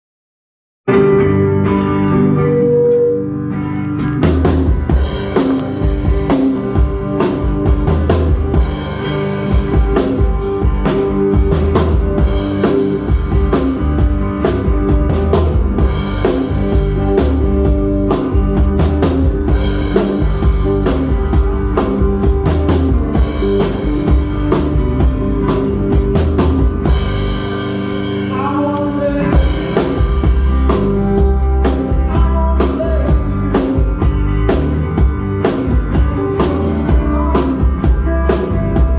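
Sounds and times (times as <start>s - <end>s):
bass guitar: 0.9s - 38.9s
bending guitar notes: 0.9s - 38.9s
electric guitars: 0.9s - 38.9s
drum kit beat: 4.0s - 38.9s.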